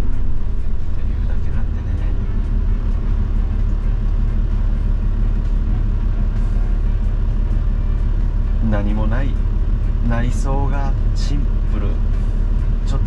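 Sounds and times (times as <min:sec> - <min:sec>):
diesel engine low rumble: 0:00.0 - 0:13.0.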